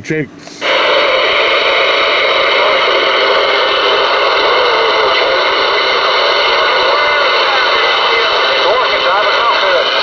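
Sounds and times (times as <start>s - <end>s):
faint wavering radio signal: 0.6s - 10.0s
radio static: 0.6s - 10.0s.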